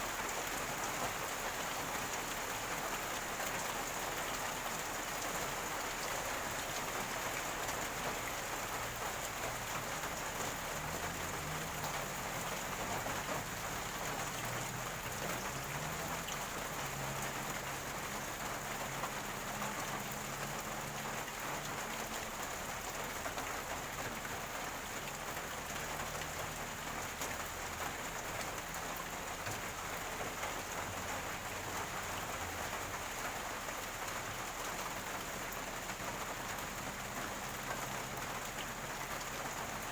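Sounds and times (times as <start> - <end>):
rainwater gurgling and splashing: 0.0 - 39.9.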